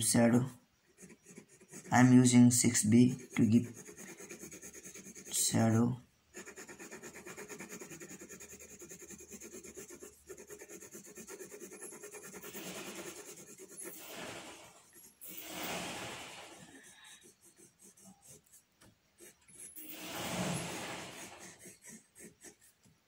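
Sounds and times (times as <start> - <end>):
pencil shading on paper: 0.1 - 23.0.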